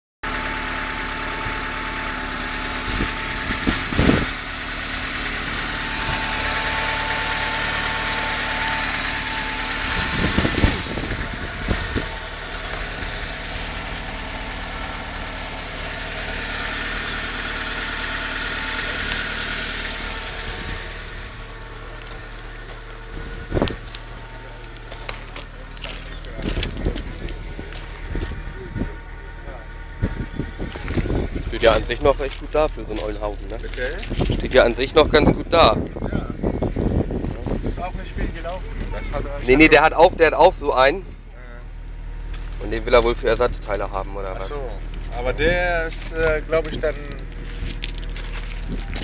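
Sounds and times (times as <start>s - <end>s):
car engine idling: 0.2s - 49.0s
engine knocks: 0.2s - 49.0s.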